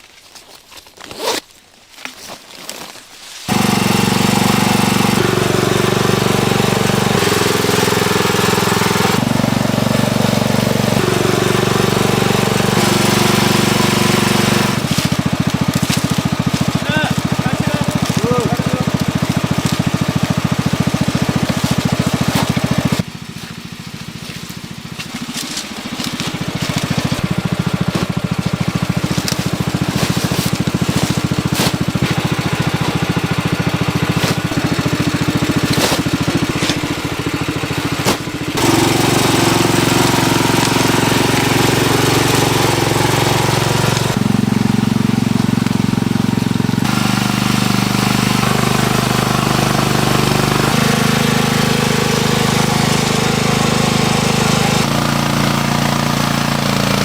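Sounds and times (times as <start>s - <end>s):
engine-driven machinery running: 3.5s - 57.0s.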